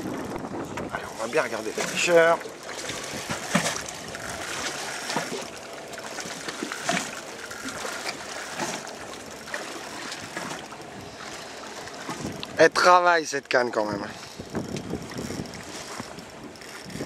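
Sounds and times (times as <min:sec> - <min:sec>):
water hissing against boat hull: 0:01.0 - 0:12.7, 0:14.0 - 0:17.0.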